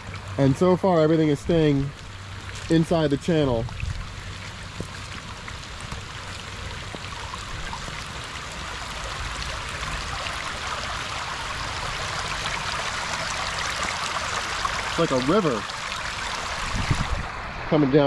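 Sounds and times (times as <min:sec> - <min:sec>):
stormwater rushing down channel: 0:00.0 - 0:18.0.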